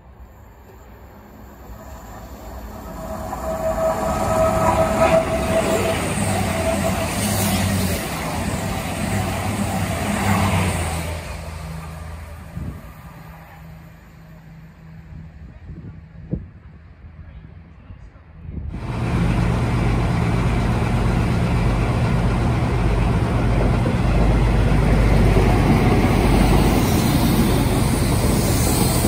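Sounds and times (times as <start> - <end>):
diesel train passing at speed: 0.0 - 17.2, 18.2 - 29.0.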